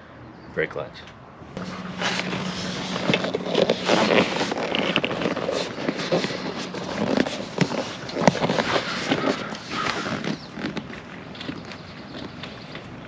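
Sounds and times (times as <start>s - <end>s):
steady low hum: 1.4s - 13.0s.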